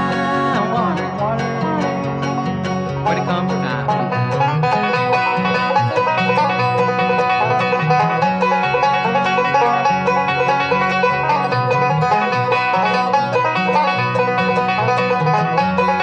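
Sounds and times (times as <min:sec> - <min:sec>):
bluegrass string band: 0:00.0 - 0:16.0
fast banjo picking: 0:00.0 - 0:16.0
walking bass line: 0:00.0 - 0:16.0.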